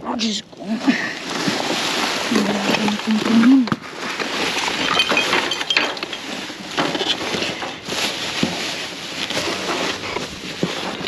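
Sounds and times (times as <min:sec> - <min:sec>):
plastic and cardboard rustling: 0:01.2 - 0:11.0.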